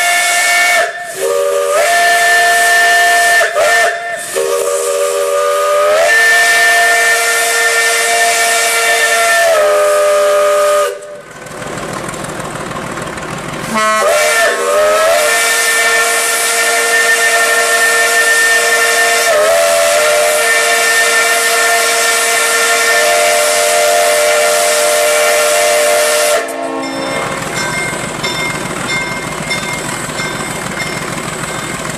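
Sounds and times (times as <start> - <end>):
steam locomotive chime whistle: 0.0 - 11.3, 13.6 - 31.9
steam hissing: 0.0 - 31.9.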